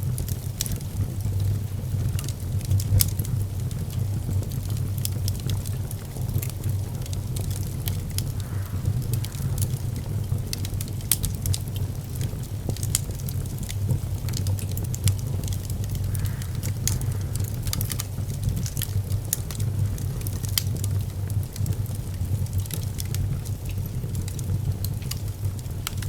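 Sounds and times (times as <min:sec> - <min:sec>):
low fire rumble: 0:00.0 - 0:26.0
wood fire crackling: 0:00.0 - 0:26.0.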